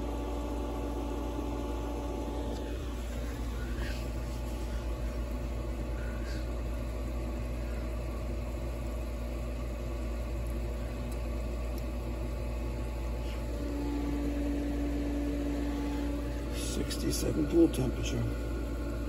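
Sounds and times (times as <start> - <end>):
higher steady hum: 0.0 - 19.0
pool motors humming: 0.0 - 19.0.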